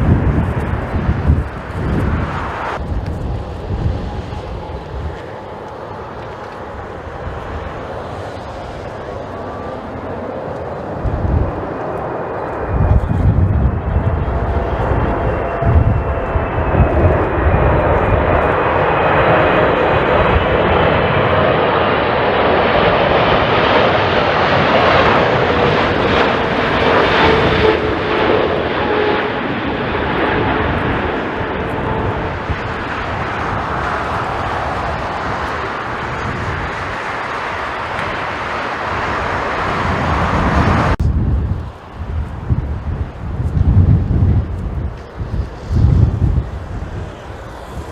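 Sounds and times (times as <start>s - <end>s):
jet engines passing with whine: 0.0s - 47.9s
wind buffeting microphone: 0.0s - 47.9s.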